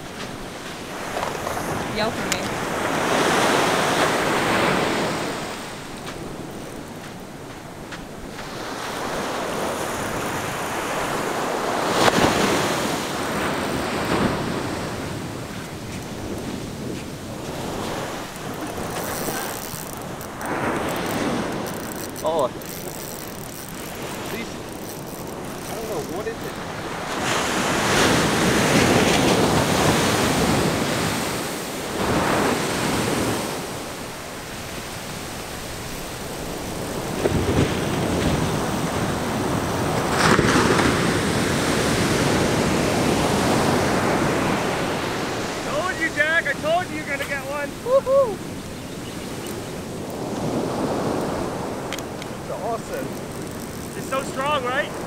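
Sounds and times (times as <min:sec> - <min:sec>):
wind noise on microphone: 0:00.0 - 0:45.8
surf crashing on a beach: 0:00.0 - 0:55.0.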